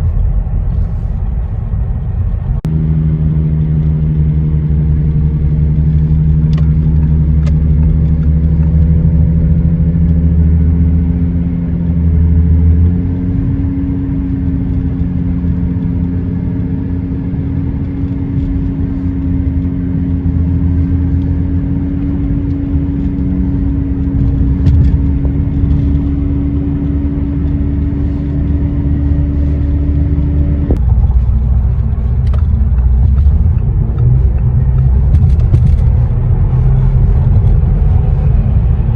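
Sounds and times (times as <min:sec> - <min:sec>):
car steady low drone: 0:00.0 - 0:38.9
tyre and road rumble: 0:00.0 - 0:38.9.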